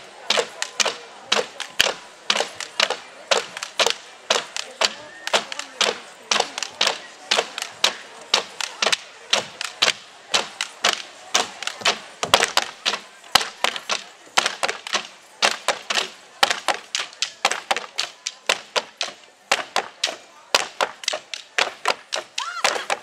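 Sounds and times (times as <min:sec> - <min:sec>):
wooden sticks clacking: 0:00.3 - 0:23.0.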